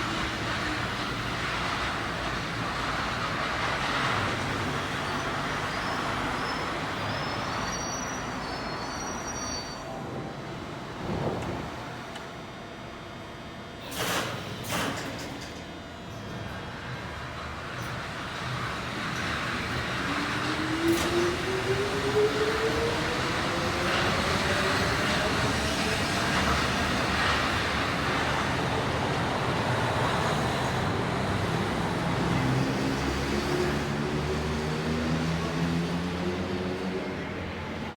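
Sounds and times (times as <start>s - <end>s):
train traction motors humming: 0.0s - 14.6s, 15.3s - 37.9s
train running noise: 0.0s - 37.9s.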